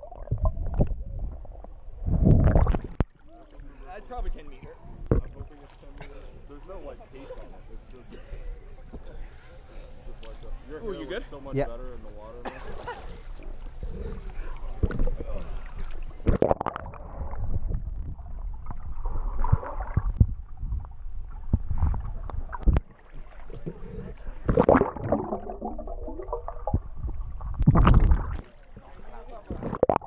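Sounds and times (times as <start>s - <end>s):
water sloshing and gurgling: 0.0s - 30.0s.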